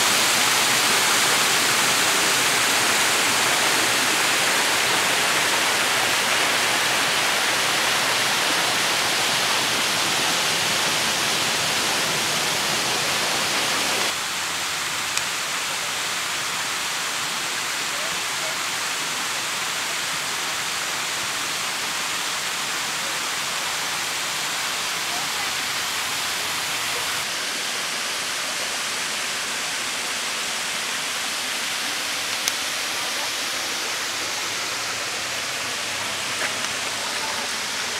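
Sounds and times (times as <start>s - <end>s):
waterfall rushing into pool: 0.0s - 37.9s.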